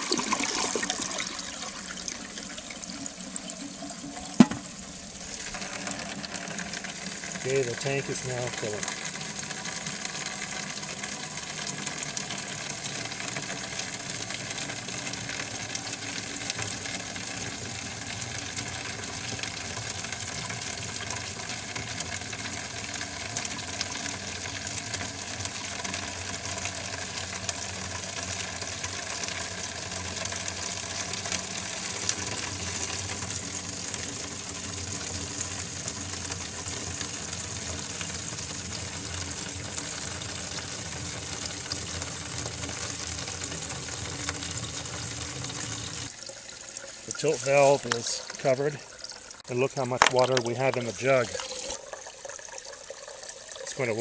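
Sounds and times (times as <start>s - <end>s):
toilet fill valve hissing: 0.0s - 54.0s
water running into plastic jug: 0.0s - 54.0s.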